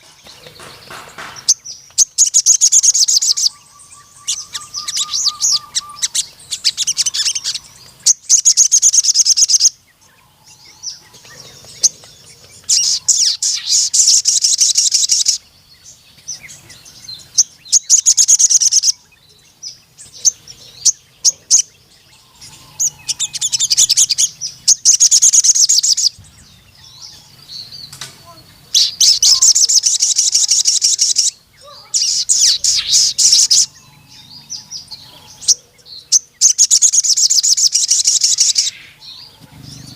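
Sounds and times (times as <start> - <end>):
bird trilling: 0.0 - 15.4, 16.4 - 19.2, 19.8 - 39.9
bird chirps: 0.0 - 39.9.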